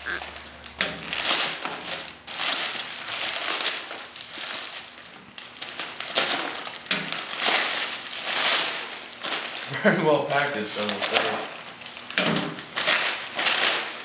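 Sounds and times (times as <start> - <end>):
packing paper crumpling: 0.0 - 14.0.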